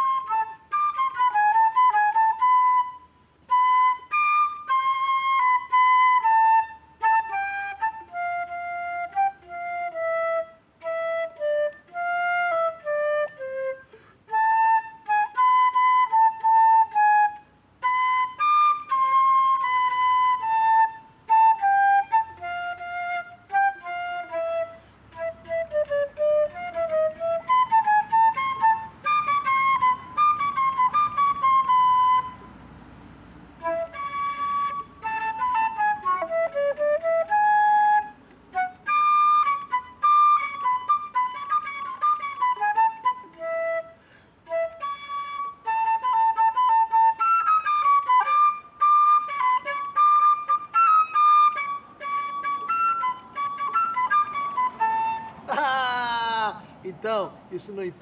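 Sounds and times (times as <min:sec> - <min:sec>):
flute-like woodwind melody: 0:00.0 - 0:32.8, 0:33.4 - 0:57.8.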